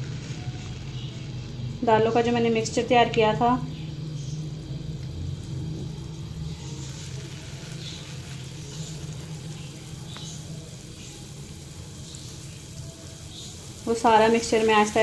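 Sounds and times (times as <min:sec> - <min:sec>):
patties sizzling in hot oil: 0:00.0 - 0:15.0.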